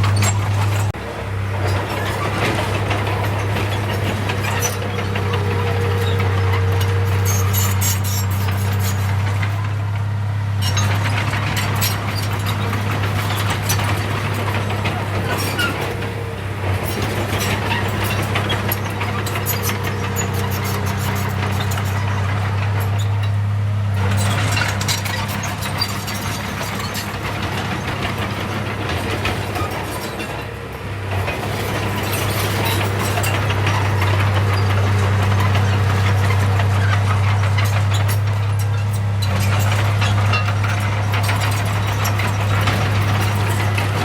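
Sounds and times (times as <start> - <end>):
heavy diesel engine running: 0.0 - 44.0
machinery clanks and rattles: 0.0 - 44.0.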